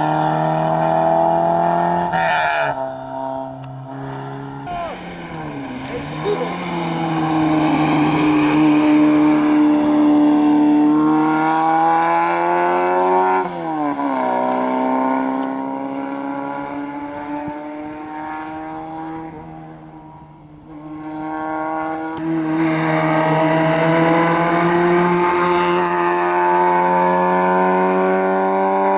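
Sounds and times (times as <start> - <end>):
rally car engine accelerating: 0.0 - 28.9.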